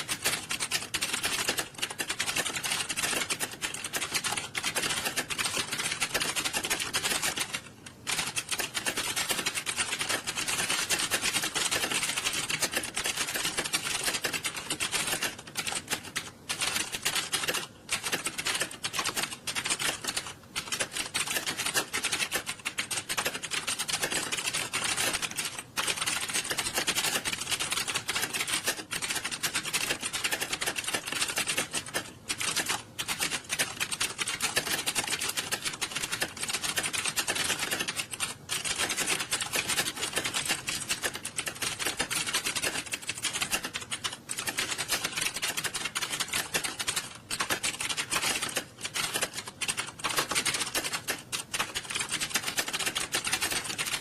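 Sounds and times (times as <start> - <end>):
many keyboards typing fast: 0.0 - 54.0.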